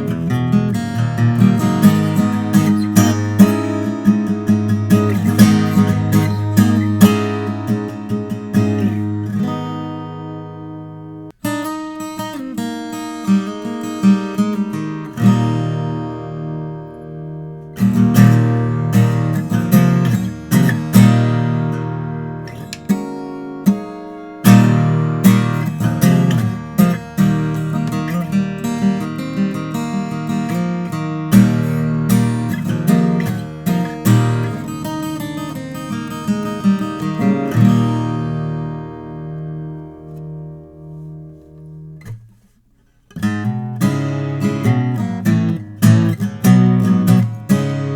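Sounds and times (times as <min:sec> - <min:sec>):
acoustic guitar picking and strumming: 0:00.0 - 0:47.9.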